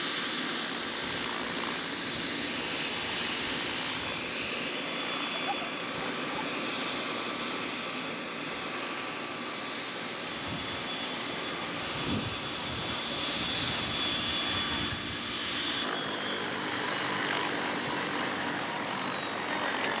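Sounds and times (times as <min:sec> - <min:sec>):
helicopter running: 0:00.0 - 0:20.0.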